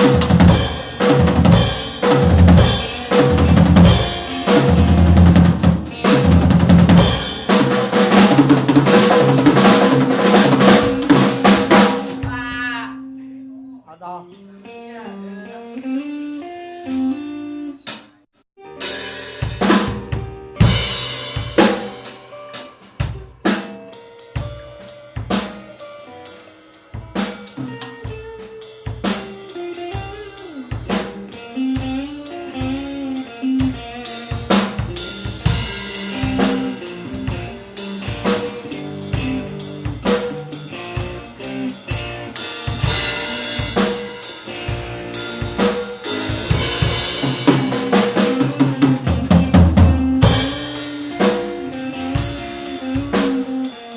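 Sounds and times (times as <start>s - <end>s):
drum kit groove: 0.0s - 13.1s, 15.8s - 53.9s
guitar melody: 0.0s - 53.9s.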